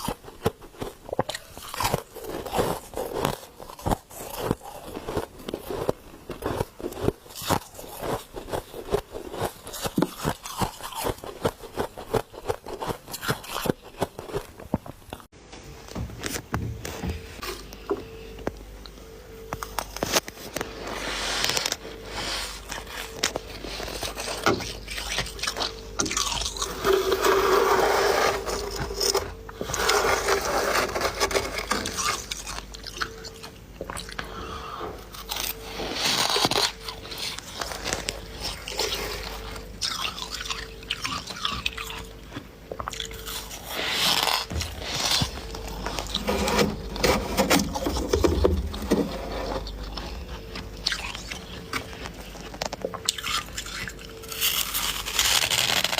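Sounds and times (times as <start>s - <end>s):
ice being bitten and chewed: 0.0s - 15.3s, 22.4s - 55.9s.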